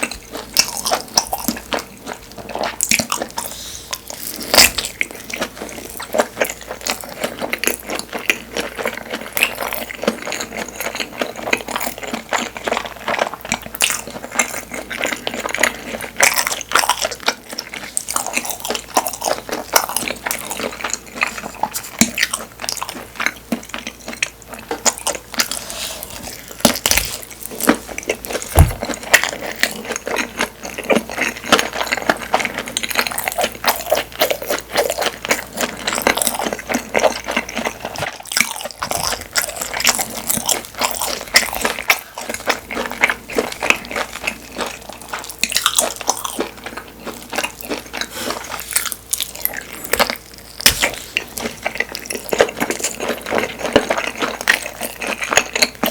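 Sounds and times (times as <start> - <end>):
wet chewing and biting: 0.0 - 55.9.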